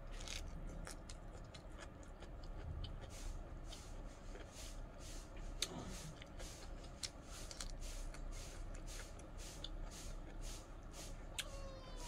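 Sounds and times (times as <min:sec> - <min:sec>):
mouth chewing food: 0:00.0 - 0:04.6, 0:05.4 - 0:11.5.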